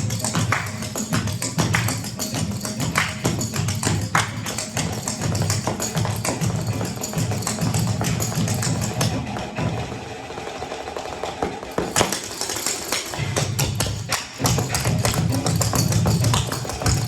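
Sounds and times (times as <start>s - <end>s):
feet tapping and stamping: 0.0s - 17.0s
music: 0.0s - 17.0s.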